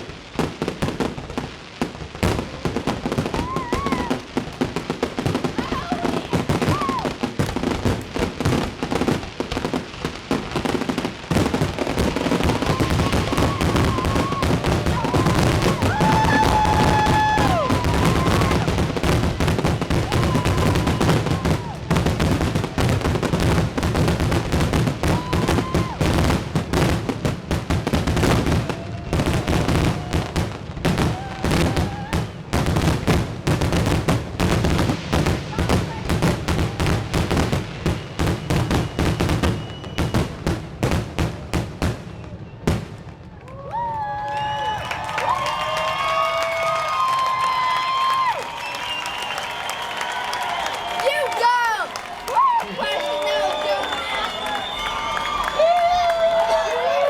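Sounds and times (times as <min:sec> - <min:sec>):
fireworks cracks and bangs: 0:00.0 - 0:57.0.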